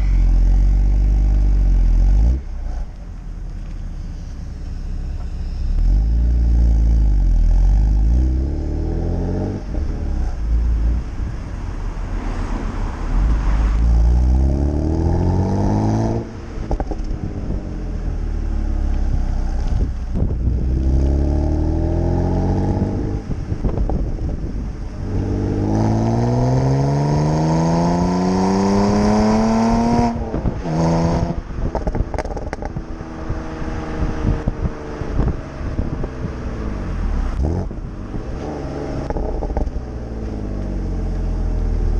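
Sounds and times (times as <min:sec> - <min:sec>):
car exhaust revving: 0:00.0 - 0:41.9.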